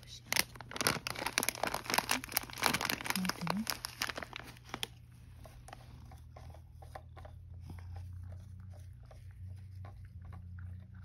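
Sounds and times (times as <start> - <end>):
cat chewing and crunching: 0.0 - 11.0.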